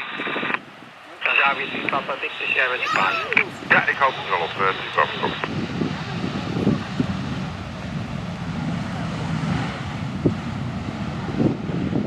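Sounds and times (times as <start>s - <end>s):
jet engines running: 0.0s - 12.0s
wind buffeting microphone: 0.0s - 12.0s.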